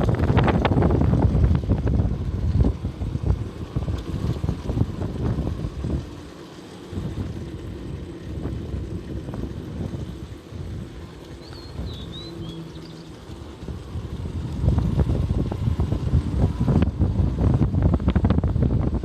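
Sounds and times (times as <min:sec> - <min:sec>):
vehicle engine rumble: 0:00.0 - 0:19.0
wind buffeting microphone: 0:00.0 - 0:19.0.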